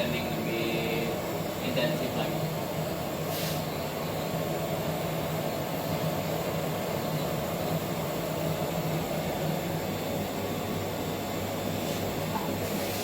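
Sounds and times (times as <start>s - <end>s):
laboratory equipment humming: 0.0s - 13.0s.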